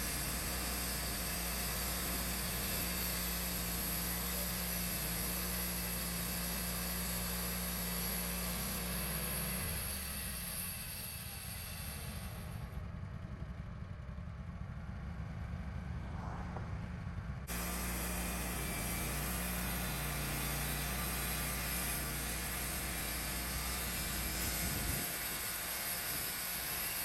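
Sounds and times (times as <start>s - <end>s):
band sawmill engine running: 0.0s - 16.0s, 17.3s - 27.0s.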